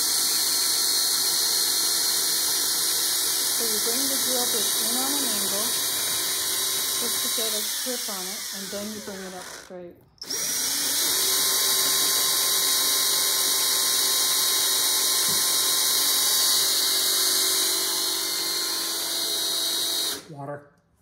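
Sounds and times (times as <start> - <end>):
drill bit drilling into porcelain: 0.0 - 20.3.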